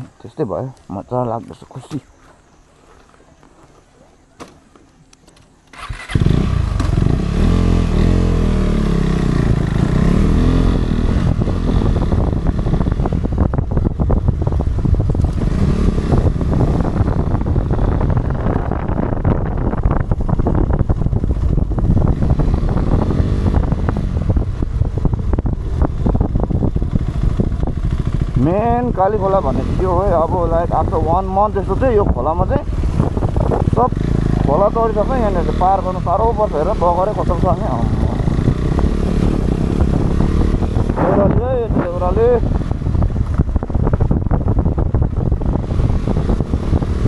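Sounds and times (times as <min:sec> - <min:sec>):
rush of riding noise: 0:00.0 - 0:47.0
motorcycle engine revving: 0:05.7 - 0:47.0.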